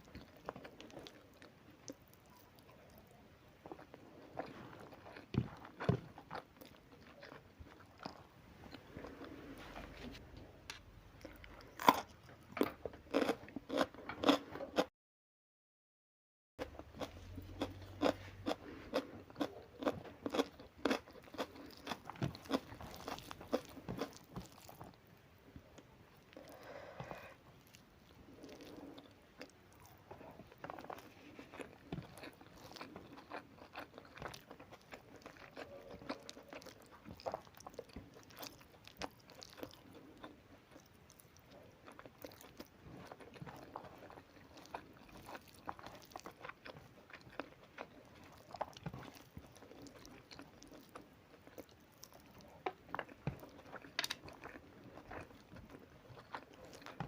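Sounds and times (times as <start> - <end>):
person chewing and crunching food: 0.0 - 14.9, 16.6 - 57.0.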